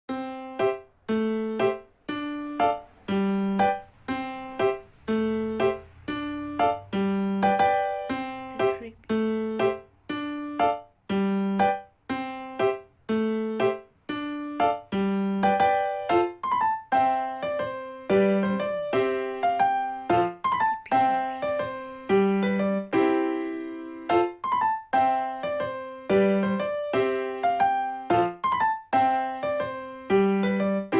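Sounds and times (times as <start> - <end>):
gentle keyboard tune: 0.1 - 30.9.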